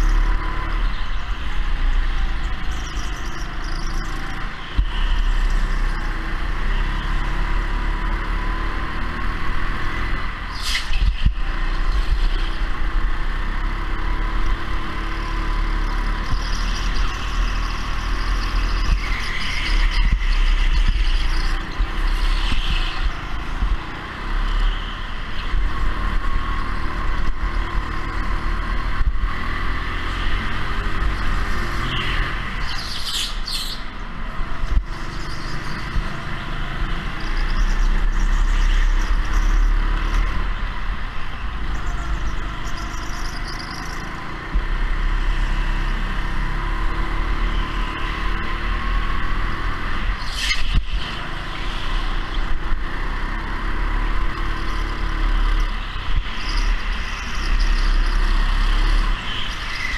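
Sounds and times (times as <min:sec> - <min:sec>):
go-kart engine at speed: 0:00.0 - 0:59.9.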